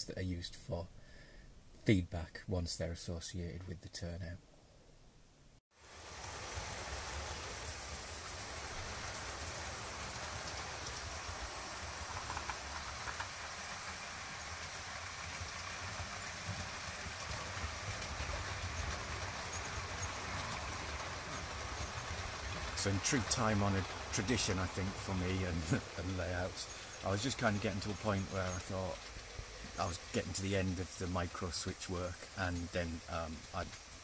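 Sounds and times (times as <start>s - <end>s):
constant hiss: 0.0s - 34.0s
model train wheels rumbling on track: 5.8s - 34.0s.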